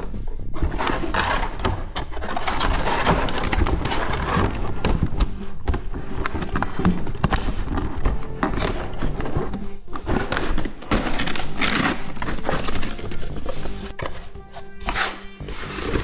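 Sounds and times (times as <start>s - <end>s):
hands handling cardboard: 0.0s - 16.0s.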